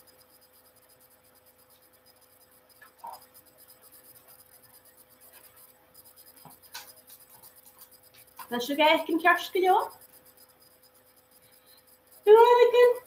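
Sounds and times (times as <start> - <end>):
faint hum and hiss: 0.0 - 13.0.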